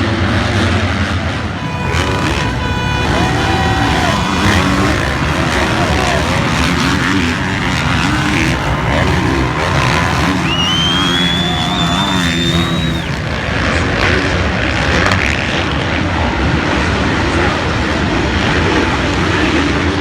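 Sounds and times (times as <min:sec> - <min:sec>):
dirt bike engines revving: 0:00.0 - 0:20.0
noisy background: 0:01.1 - 0:20.0.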